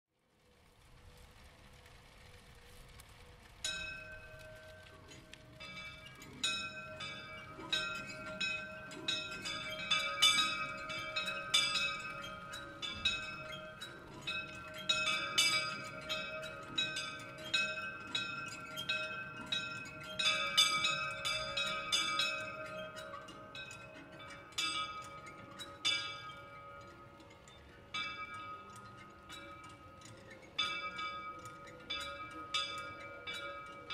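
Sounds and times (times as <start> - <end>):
small church bells ringing: 3.7 - 33.9.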